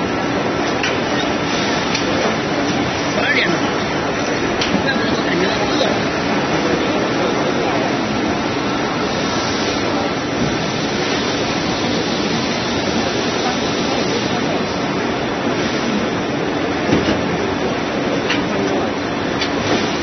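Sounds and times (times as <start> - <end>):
machines running: 0.0 - 20.0
faint voices: 1.0 - 19.3.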